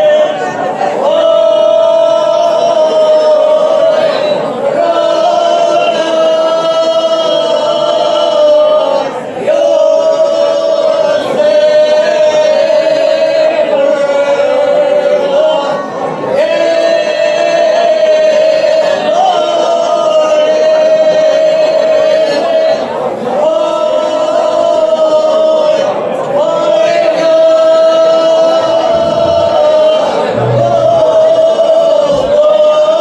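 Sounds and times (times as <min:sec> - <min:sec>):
women singing unaccompanied: 0:00.0 - 0:33.0.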